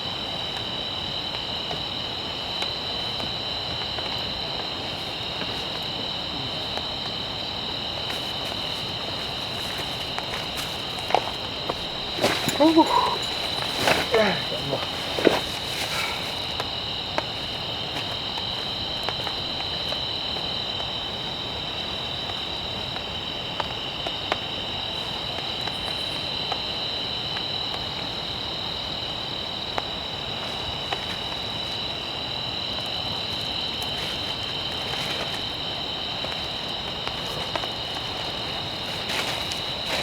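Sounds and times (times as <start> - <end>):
insect chorus trilling: 0.0 - 40.0.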